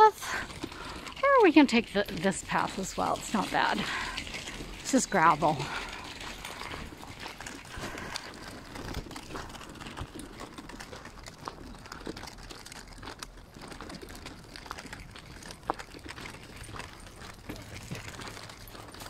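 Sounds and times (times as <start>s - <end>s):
footsteps on gravel: 0.3s - 19.0s.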